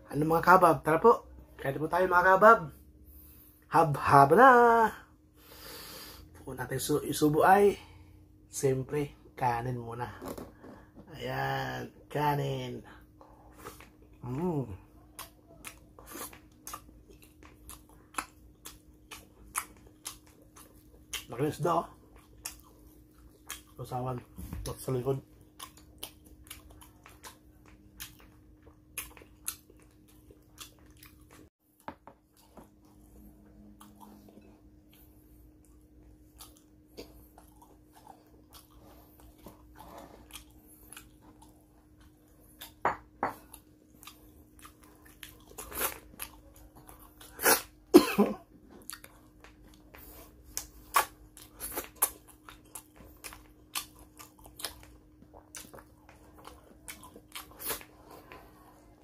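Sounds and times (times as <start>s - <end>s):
faint steady hum: 0.0s - 59.0s
person chewing and crunching food: 9.3s - 59.0s.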